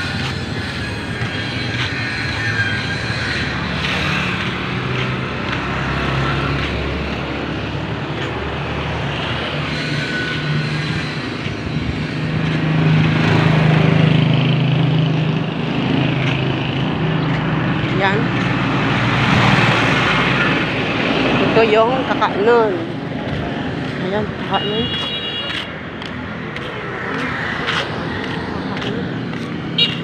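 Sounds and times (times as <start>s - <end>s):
vehicle engines passing: 0.0s - 30.0s.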